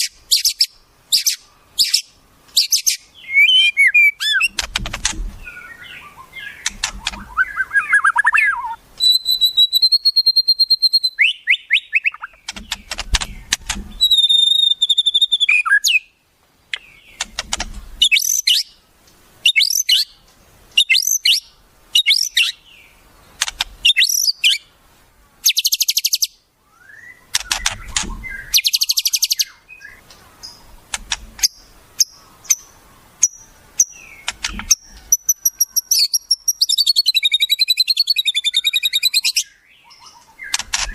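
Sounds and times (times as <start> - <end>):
songbird calls: 0.0 - 24.8, 25.4 - 40.9.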